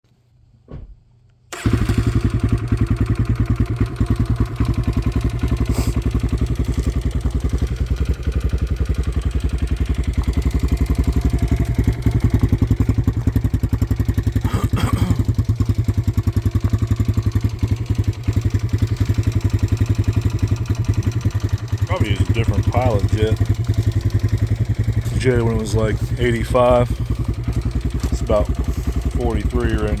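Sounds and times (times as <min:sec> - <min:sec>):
motorcycle engine starting and idling: 0:01.5 - 0:30.0.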